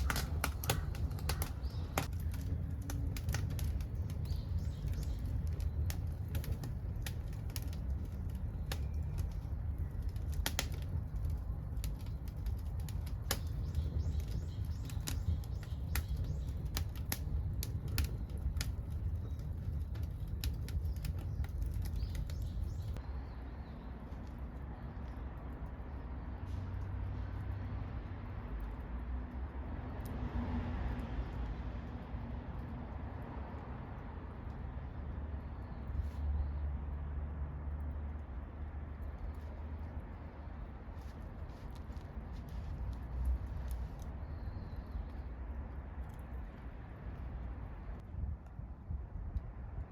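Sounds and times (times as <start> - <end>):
wood fire crackling and popping: 0.0 - 23.1, 24.0 - 36.2, 37.1 - 49.9
low rumble of burning fire: 0.0 - 49.9.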